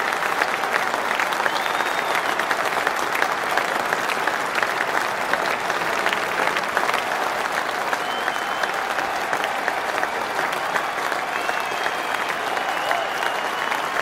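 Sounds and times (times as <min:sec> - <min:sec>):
large crowd applauding: 0:00.0 - 0:14.0.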